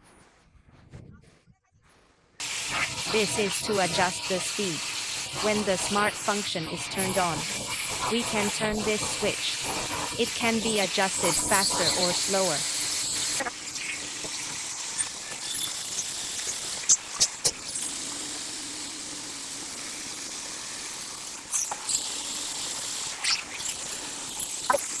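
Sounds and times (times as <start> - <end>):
bandsaw running with high hiss: 2.4 - 25.0.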